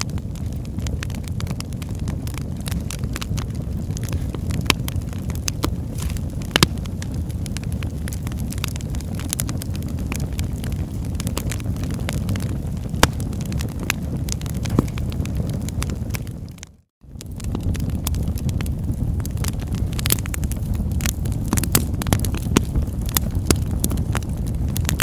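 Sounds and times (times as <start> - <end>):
fire crackling: 0.0 - 25.0
fire popping and snapping: 0.0 - 25.0.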